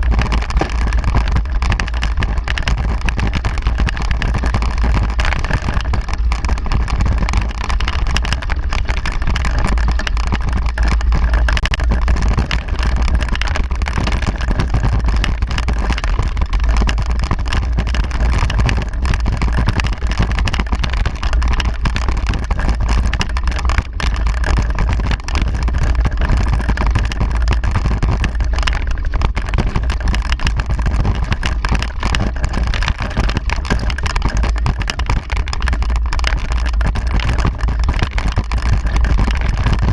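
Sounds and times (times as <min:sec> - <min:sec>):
bike rolling noise: 0:00.0 - 0:39.9.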